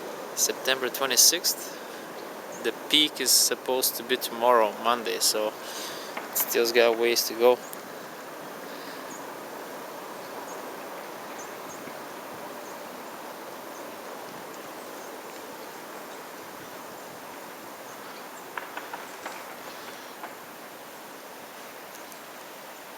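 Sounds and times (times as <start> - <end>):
river rushing: 0.0 - 22.9.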